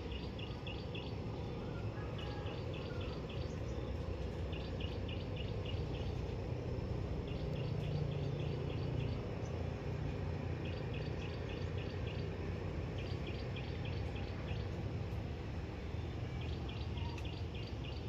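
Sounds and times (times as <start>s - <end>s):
insects chirping: 0.0s - 14.9s.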